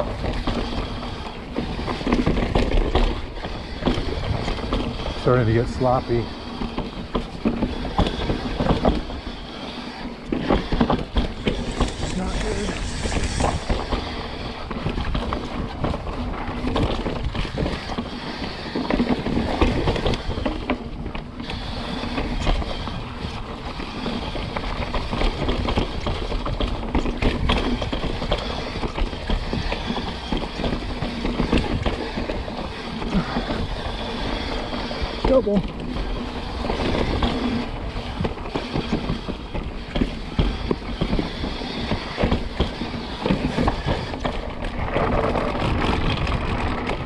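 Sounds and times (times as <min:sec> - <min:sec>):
bike knocking and rattling: 0:00.0 - 0:47.0
bike tyres rumbling on dirt: 0:00.0 - 0:47.0.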